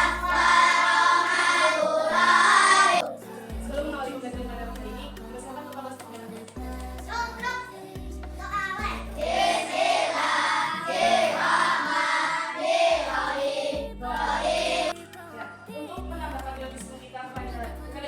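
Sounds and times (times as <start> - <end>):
children singing: 0.0 - 15.9
backing music with bass line: 0.0 - 18.0.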